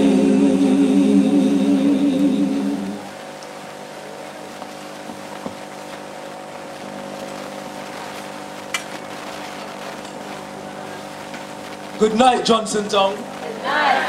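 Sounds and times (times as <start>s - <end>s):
sound system hum: 0.0s - 14.0s.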